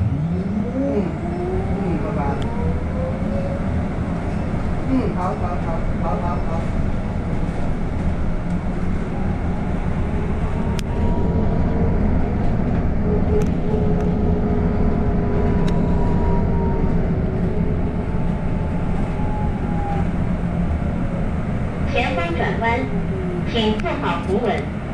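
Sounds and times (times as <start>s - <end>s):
bus driving rumble: 0.0s - 24.9s.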